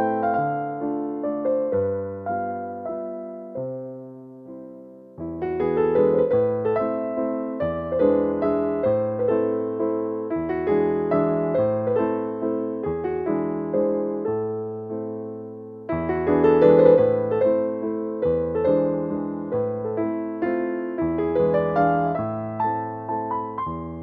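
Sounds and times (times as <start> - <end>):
gentle electric piano melody: 0.0 - 24.0.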